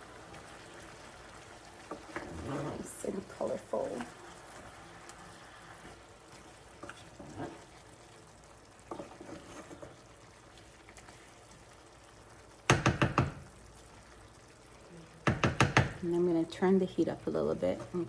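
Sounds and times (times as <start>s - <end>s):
utensil stirring food in pot: 0.0s - 18.0s.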